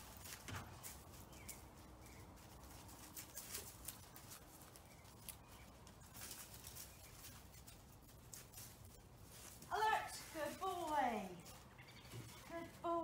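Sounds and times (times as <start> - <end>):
dog paws rustling dry leaves: 0.0 - 13.0.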